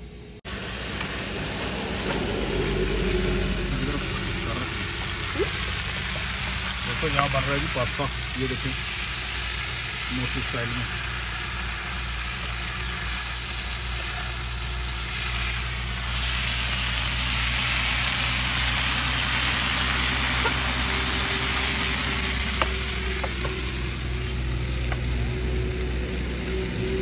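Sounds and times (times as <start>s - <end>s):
pasta sizzling in a pan: 0.5s - 27.0s.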